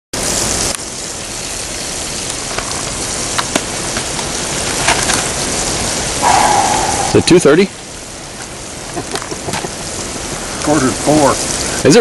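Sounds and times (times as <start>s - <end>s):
fish sizzling in a pan: 0.2s - 12.0s.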